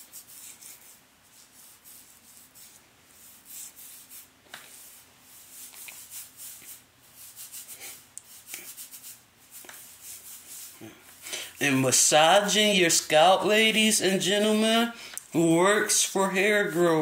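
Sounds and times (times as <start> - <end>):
fingertips rubbing hair: 0.0 - 14.8, 15.6 - 17.0.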